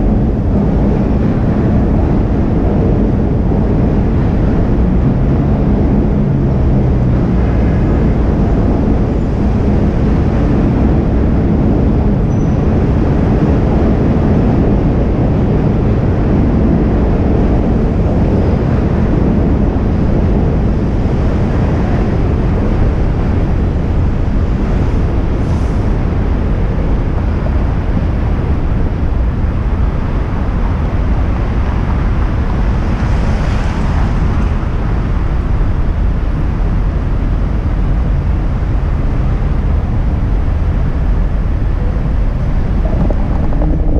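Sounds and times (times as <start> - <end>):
low road rumble: 0.0 - 43.9
wind buffeting microphone: 0.0 - 43.9.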